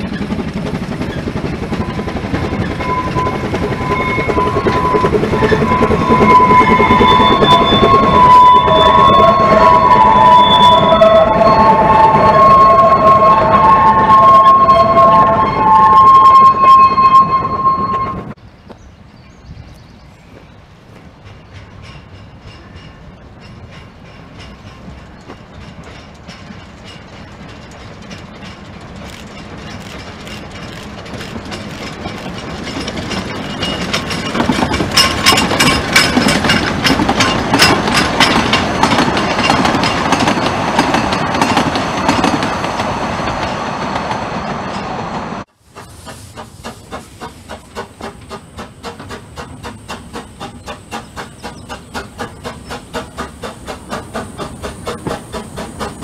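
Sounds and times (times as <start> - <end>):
carriages clattering over rail joints: 0.0 - 18.4, 20.8 - 56.0
steam locomotive chuffing: 0.0 - 18.4, 20.8 - 56.0
steam locomotive hissing: 0.0 - 18.4, 20.7 - 56.0.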